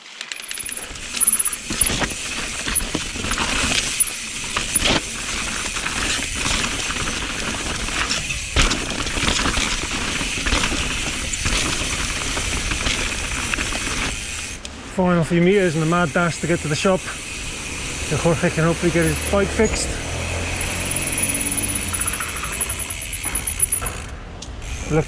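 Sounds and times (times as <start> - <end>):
bike rattles and metallic clinks: 0.0 - 14.6, 16.2 - 25.0
bike tyre noise: 0.0 - 14.9, 15.5 - 25.0.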